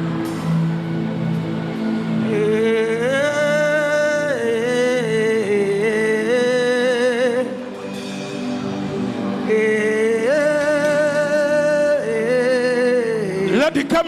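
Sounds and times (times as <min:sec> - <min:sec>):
slow worship music with singing: 0:00.0 - 0:14.0.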